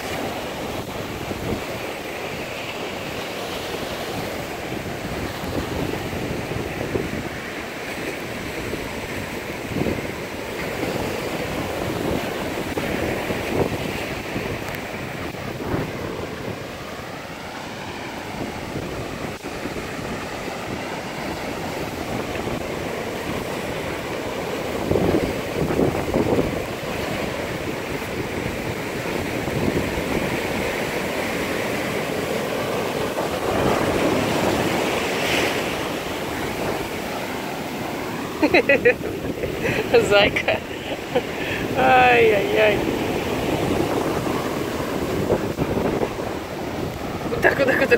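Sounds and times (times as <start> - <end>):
surf washing onto beach: 0.0 - 47.9
wind buffeting microphone: 0.0 - 47.9.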